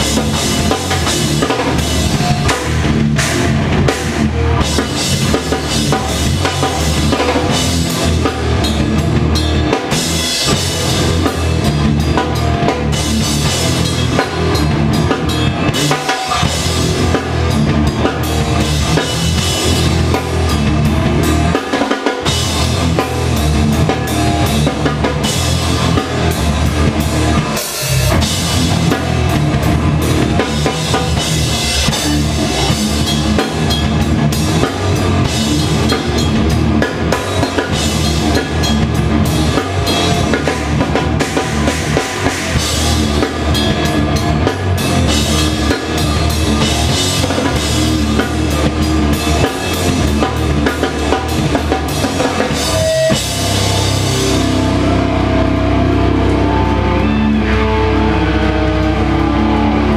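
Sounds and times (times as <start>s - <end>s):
drum kit and cymbals: 0.0s - 57.8s
live rock band playing: 0.0s - 59.9s.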